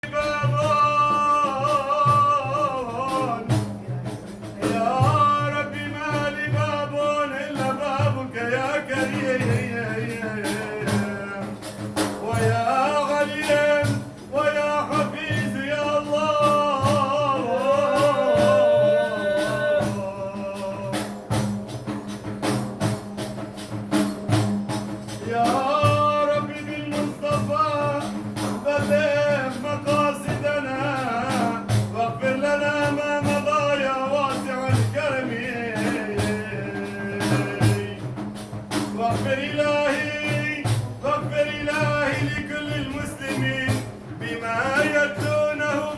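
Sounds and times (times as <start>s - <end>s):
man singing praise song: 0.0s - 21.4s, 25.1s - 45.9s
frame drums beating: 0.0s - 45.9s.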